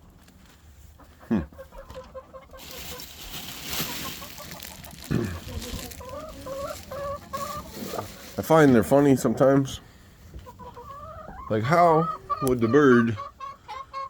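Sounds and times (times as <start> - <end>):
hens clucking: 0.9 - 14.0.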